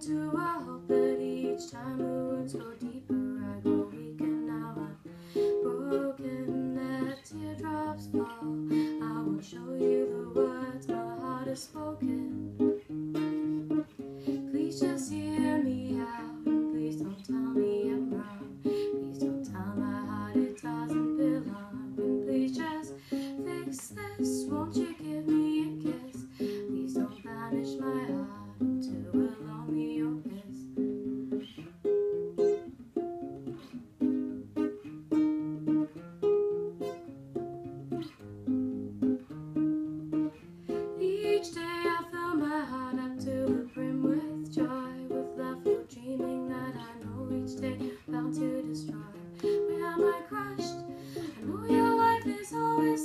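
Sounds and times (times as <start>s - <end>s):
classical guitar fingerpicked: 0.0s - 53.0s.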